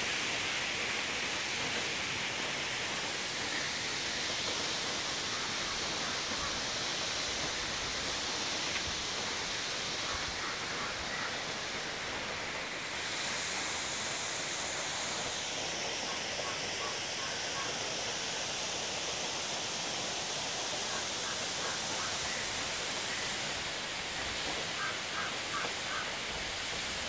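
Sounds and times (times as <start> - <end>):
steady rushing hiss: 0.0 - 27.0.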